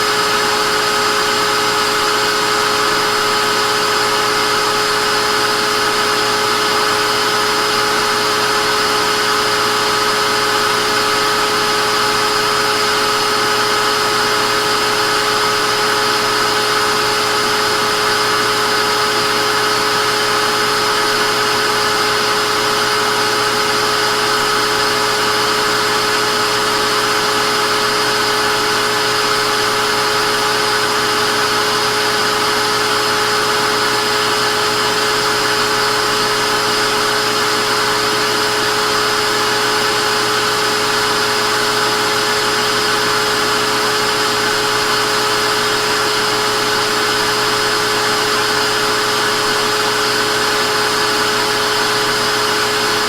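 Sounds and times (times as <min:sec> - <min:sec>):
vacuum cleaner motor running: 0:00.0 - 0:53.0.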